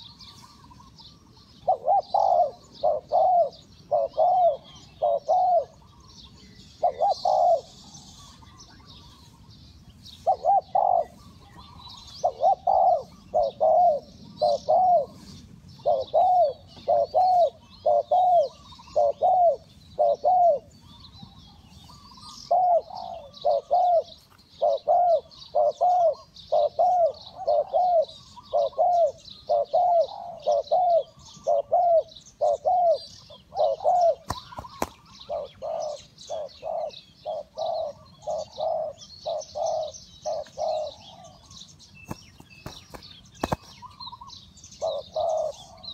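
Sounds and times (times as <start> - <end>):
dove cooing: 0.0 - 9.5, 10.1 - 45.9
small birds chirping: 0.0 - 45.9.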